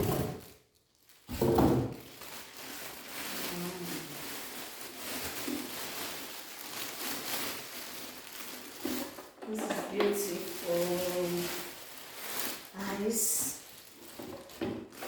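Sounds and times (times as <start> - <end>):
packaging rustling: 0.0 - 15.0.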